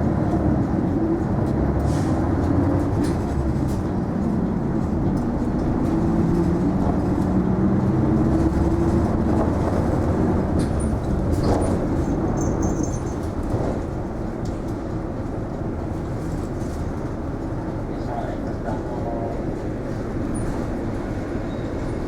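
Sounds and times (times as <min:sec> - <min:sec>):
bus diesel engine humming: 0:00.0 - 0:22.0
road noise: 0:00.0 - 0:22.0.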